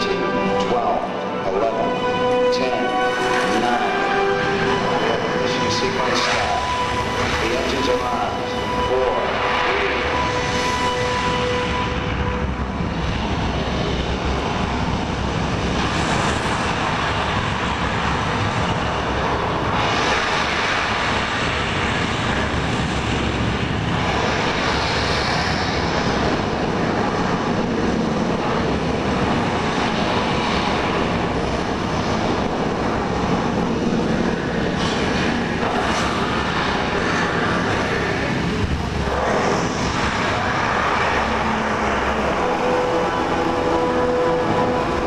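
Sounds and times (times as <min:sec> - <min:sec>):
rocket engines rumbling over speakers: 0:00.0 - 0:45.0.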